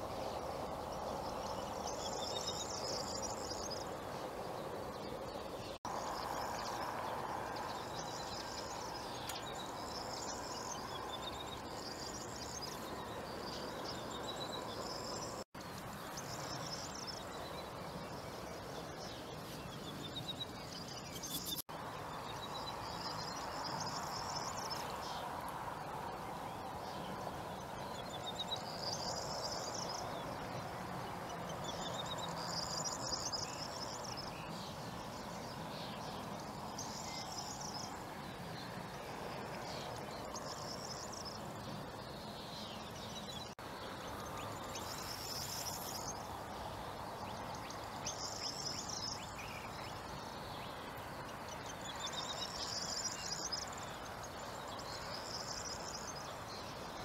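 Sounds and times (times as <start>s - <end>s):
background hiss: 0.0s - 57.0s
songbird singing: 0.0s - 57.0s.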